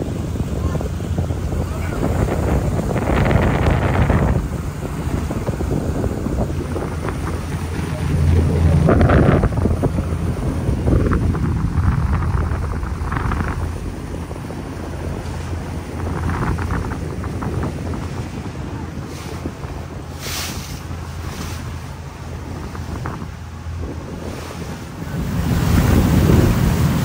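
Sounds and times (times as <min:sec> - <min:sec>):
boat engine drone: 0:00.0 - 0:27.0
splashes: 0:00.0 - 0:27.0
water rushing: 0:00.0 - 0:27.0
wind buffeting microphone: 0:00.0 - 0:27.0.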